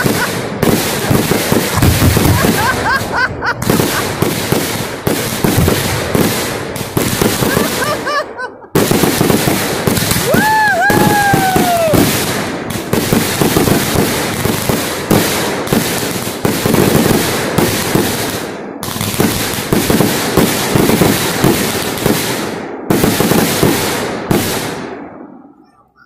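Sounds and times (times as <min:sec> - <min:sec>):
heavy firework booms: 0:00.0 - 0:25.3
firework bursts: 0:00.0 - 0:26.0.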